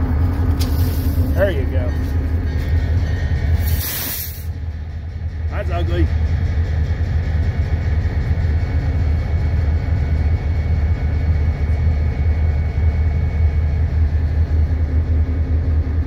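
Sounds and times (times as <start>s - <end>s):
locomotive engine idling: 0.0s - 16.0s.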